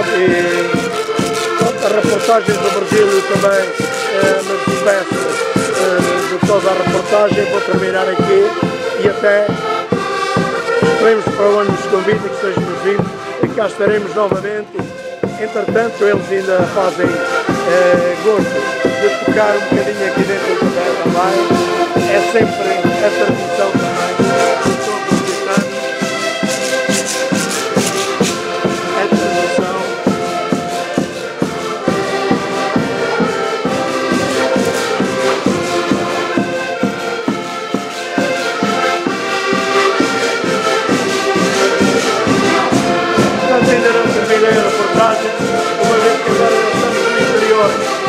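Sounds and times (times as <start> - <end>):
accordion ensemble playing: 0.0 - 48.0
steady beat: 0.0 - 48.0.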